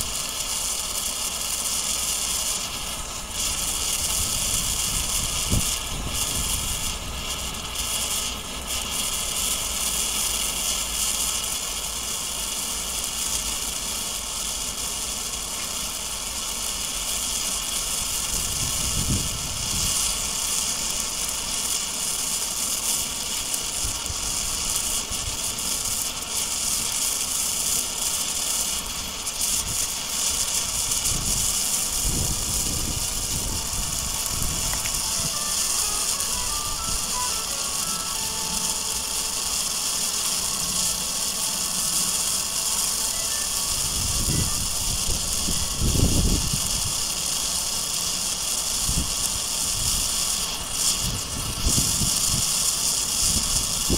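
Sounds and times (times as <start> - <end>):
flare burning with high hiss: 0.0 - 53.9.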